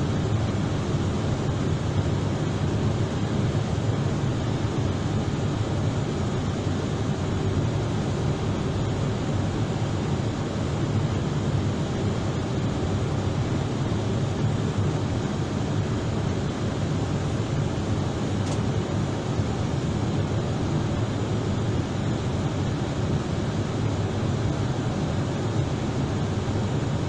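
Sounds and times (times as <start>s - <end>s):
cabin ventilation whooshing hum: 0.0s - 27.0s.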